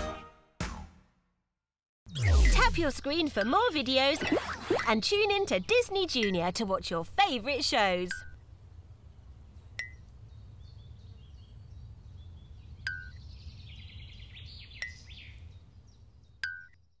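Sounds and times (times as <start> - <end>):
small birds chirping: 3.0 - 17.0.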